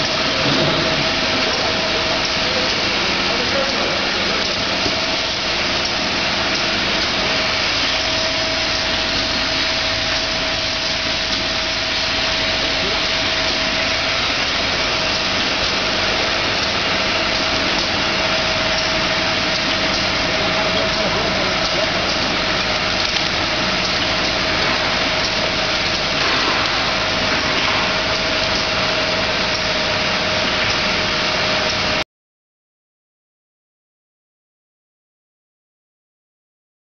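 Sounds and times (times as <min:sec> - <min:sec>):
machine hum and whir: 0:00.0 - 0:32.0.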